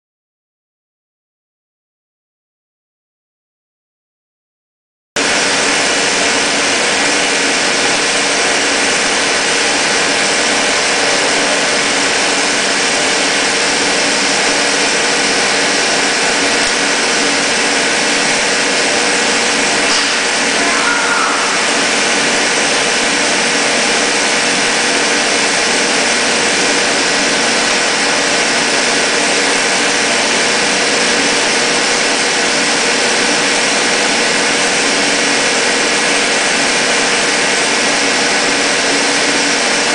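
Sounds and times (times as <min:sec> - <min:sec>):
milling machine humming and whining: 0:05.2 - 0:39.9.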